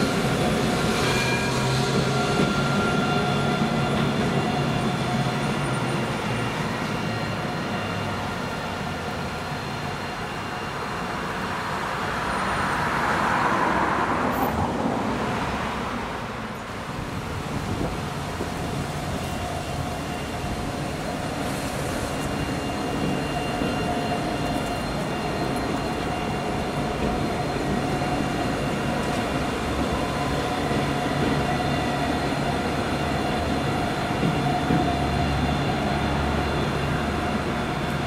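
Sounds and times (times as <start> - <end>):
tram motors whining: 0.0 - 15.6, 16.6 - 38.0
town traffic noise: 0.0 - 38.0
tram rolling rumble: 0.0 - 38.0.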